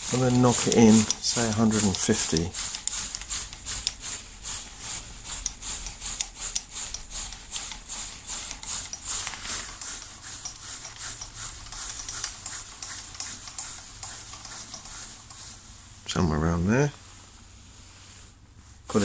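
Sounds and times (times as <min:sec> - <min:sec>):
lathe handwheel scratchy ticking: 0:00.0 - 0:15.5.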